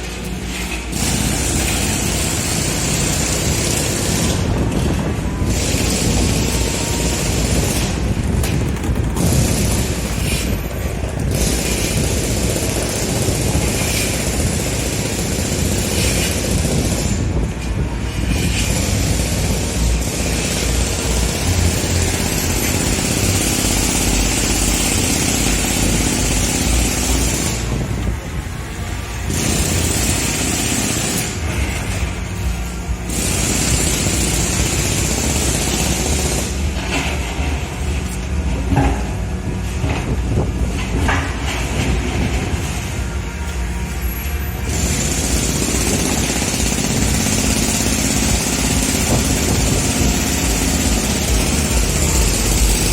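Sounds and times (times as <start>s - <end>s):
diesel engine rumble: 0.0s - 52.9s.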